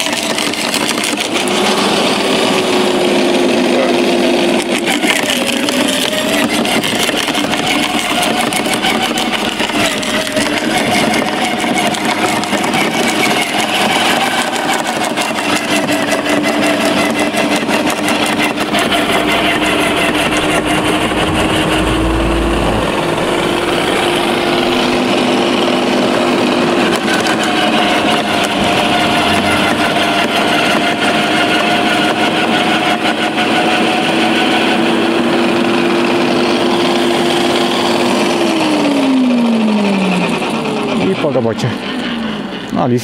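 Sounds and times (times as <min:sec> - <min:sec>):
garden shredder chipping branches: 0:00.0 - 0:21.2, 0:23.7 - 0:42.3.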